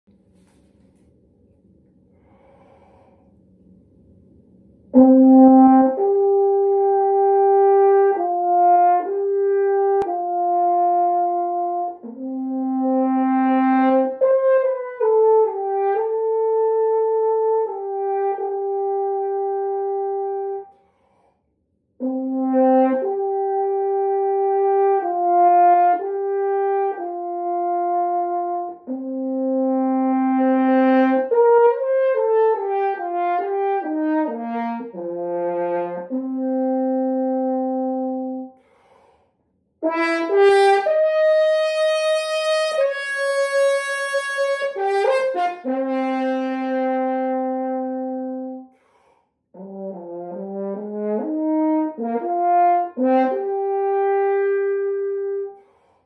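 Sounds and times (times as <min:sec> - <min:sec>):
french horn melody: 0:04.9 - 0:20.8, 0:22.0 - 0:39.2, 0:39.8 - 0:56.0.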